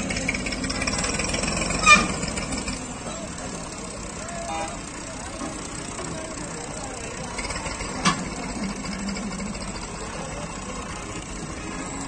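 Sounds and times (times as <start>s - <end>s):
diesel tractor engine clattering: 0.0s - 12.0s.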